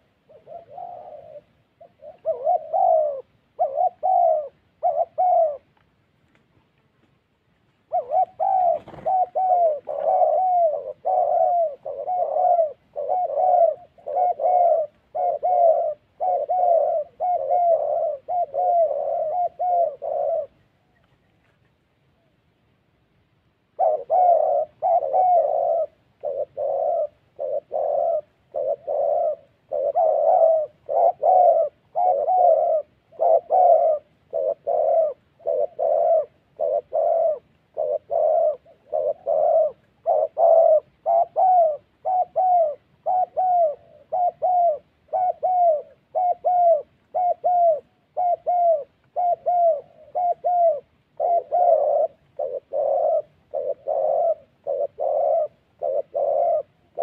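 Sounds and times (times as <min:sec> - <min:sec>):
doves cooing rapidly: 0:00.0 - 0:05.8, 0:07.8 - 0:21.4, 0:23.7 - 0:57.0.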